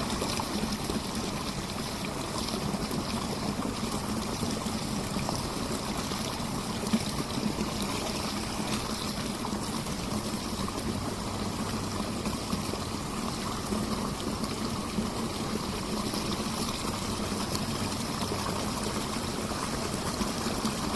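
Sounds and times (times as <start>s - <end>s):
stream flowing: 0.0s - 20.9s.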